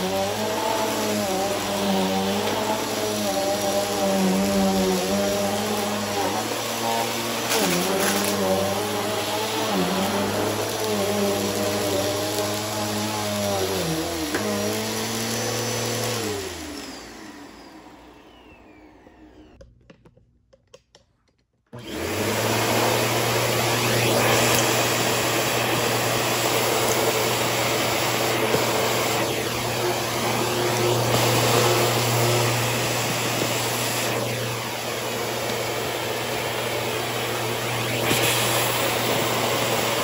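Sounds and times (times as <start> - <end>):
vacuum cleaner running: 0.0 - 19.6, 21.8 - 40.0.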